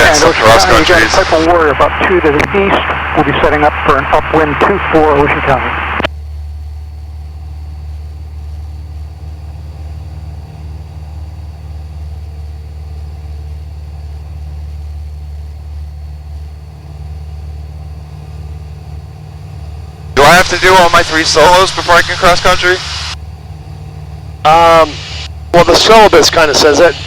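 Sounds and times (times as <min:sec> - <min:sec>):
airplane engine and propeller droning: 0:00.0 - 0:27.0.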